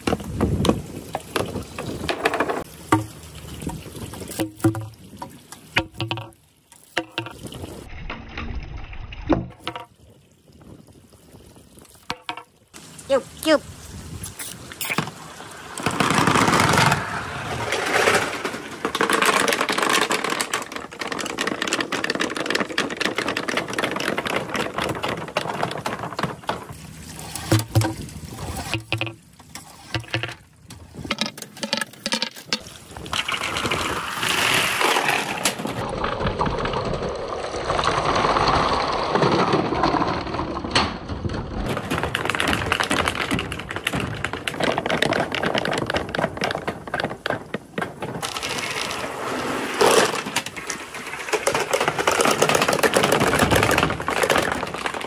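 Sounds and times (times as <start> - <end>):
marbles rolling and clacking: 0.0 - 5.0, 5.7 - 8.2, 9.2 - 10.0, 12.1 - 12.6, 14.4 - 55.0
running water pouring: 0.0 - 40.7, 48.2 - 55.0.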